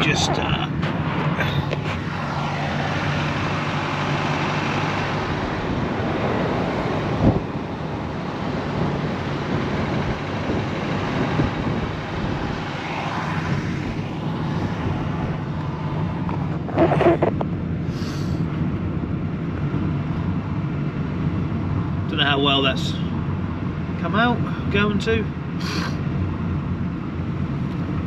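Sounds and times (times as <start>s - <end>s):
low engine drone: 0.0s - 28.0s
road and tyre noise in cabin: 0.0s - 28.0s.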